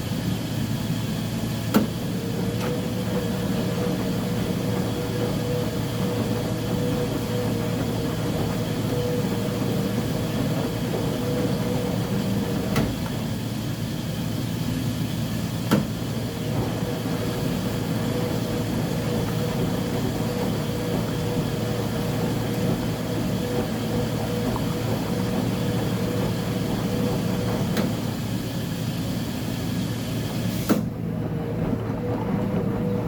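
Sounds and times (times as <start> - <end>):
washing machine humming: 0.0 - 33.0.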